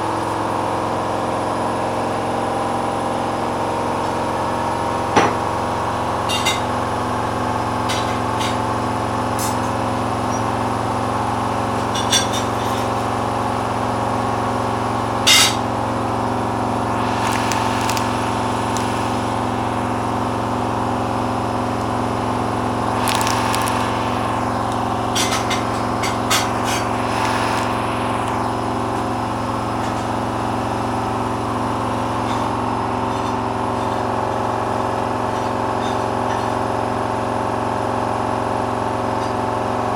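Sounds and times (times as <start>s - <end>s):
washing machine spinning: 3.0s - 37.6s.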